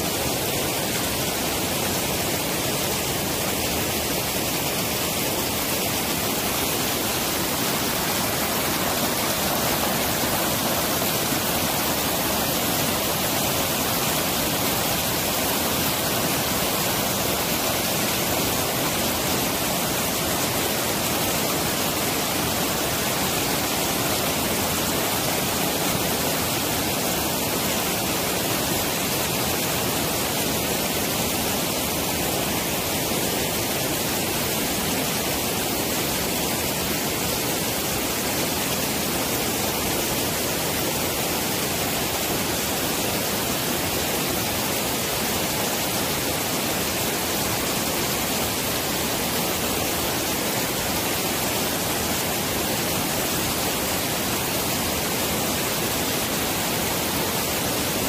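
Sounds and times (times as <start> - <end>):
stream water rushing over rocks: 0.0 - 58.0.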